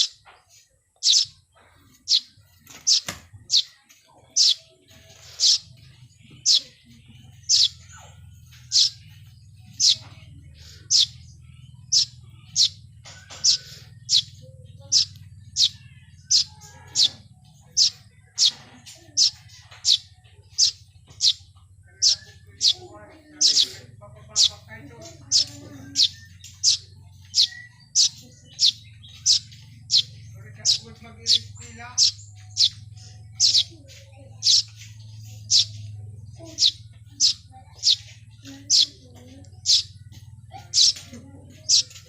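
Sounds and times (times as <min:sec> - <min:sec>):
bird chirping: 0:00.0 - 0:42.0.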